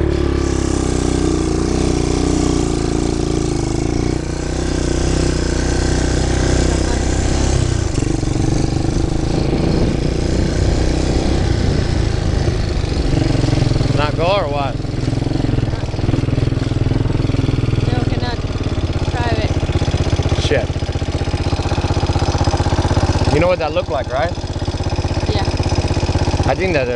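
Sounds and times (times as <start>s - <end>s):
atv engine running: 0.0s - 26.9s.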